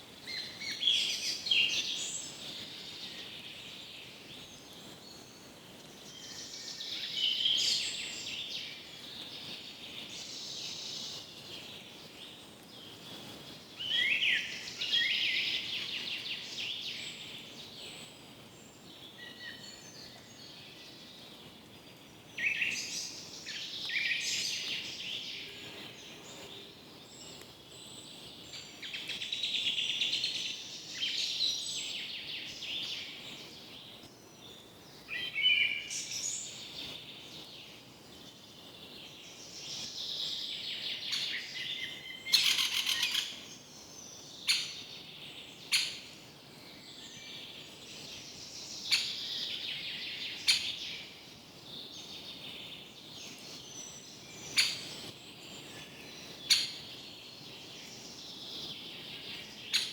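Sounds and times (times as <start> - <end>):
faint steady hiss: 0.0 - 59.9
songbirds singing and chirping: 0.0 - 59.9.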